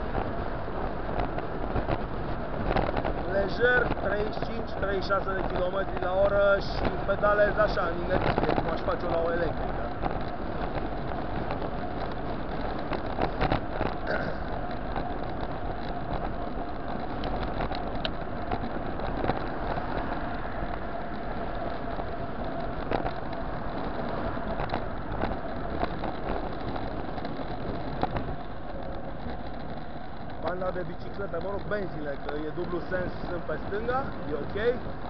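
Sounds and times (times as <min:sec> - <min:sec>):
bicycle wind and tyre noise: 0:00.0 - 0:35.0
light knocks and rattles: 0:02.6 - 0:35.0.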